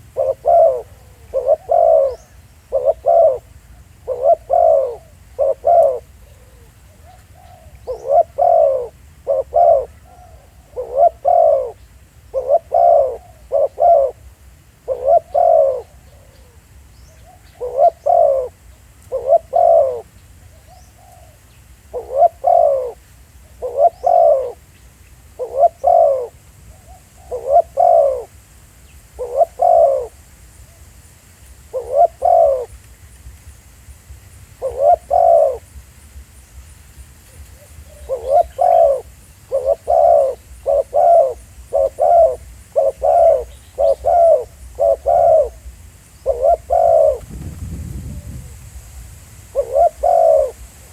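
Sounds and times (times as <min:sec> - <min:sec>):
doves cooing: 0:00.0 - 0:24.6, 0:25.3 - 0:28.4, 0:29.2 - 0:30.2, 0:31.7 - 0:32.8, 0:34.6 - 0:35.7, 0:37.3 - 0:47.3, 0:49.5 - 0:50.9.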